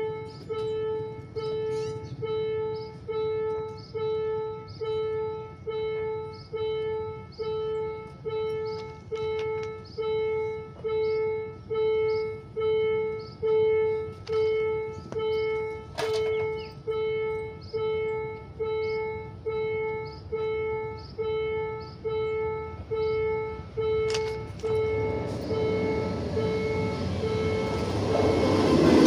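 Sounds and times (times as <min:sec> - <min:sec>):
level crossing warning bell ringing: 0:00.0 - 0:29.0.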